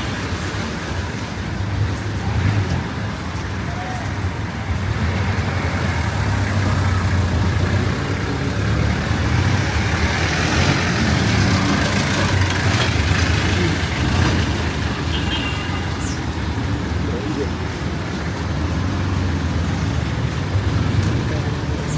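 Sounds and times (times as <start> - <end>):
road noise: 0.0 - 21.9
vehicle engine humming: 0.0 - 21.9.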